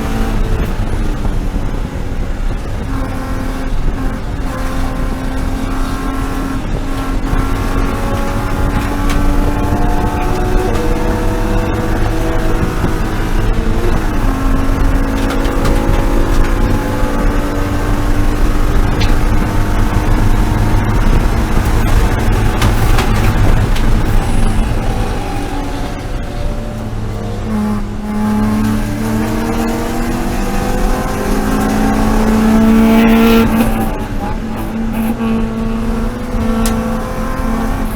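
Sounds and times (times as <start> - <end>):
race car engine running: 0.0 - 37.9
road and wind noise: 0.0 - 37.9.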